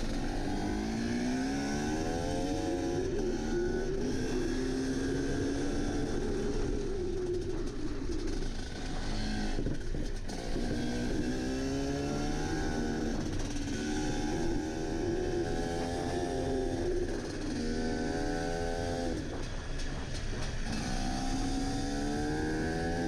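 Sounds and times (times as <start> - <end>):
steady rushing noise: 0.0 - 22.9
motorcycle engine revving: 0.0 - 23.0.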